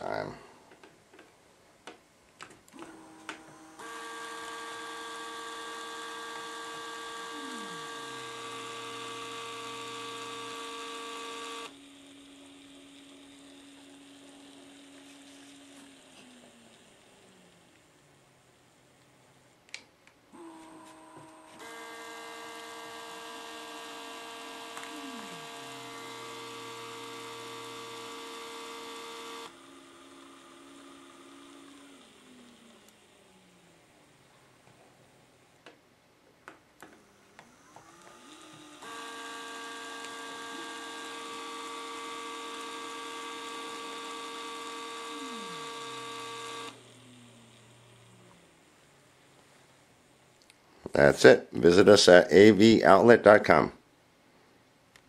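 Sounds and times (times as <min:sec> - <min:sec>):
roller-shade motors whining: 0:02.7 - 0:19.6, 0:20.3 - 0:35.7, 0:36.8 - 0:50.4.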